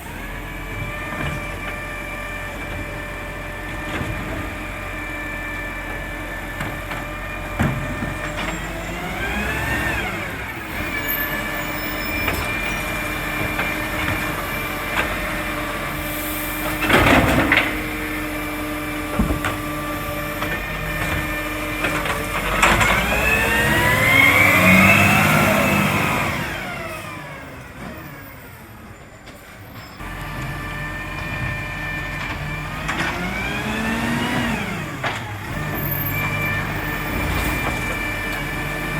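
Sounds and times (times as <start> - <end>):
garbage truck engine revving: 0.0 - 28.6, 30.0 - 38.9.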